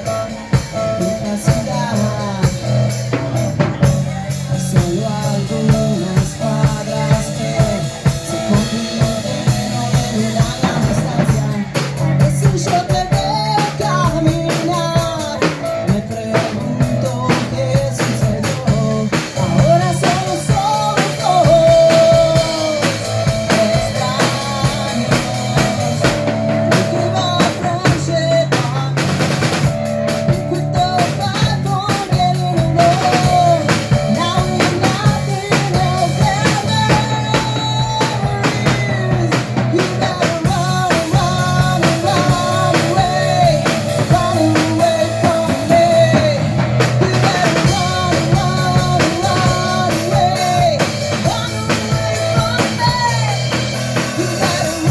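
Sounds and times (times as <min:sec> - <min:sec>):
drum kit beat: 0:00.0 - 0:54.9
rock band playing live: 0:00.0 - 0:54.9.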